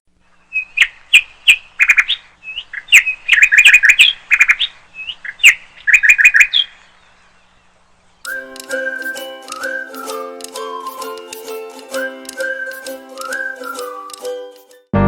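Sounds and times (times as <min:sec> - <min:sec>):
songbird chirping: 0:00.1 - 0:14.4.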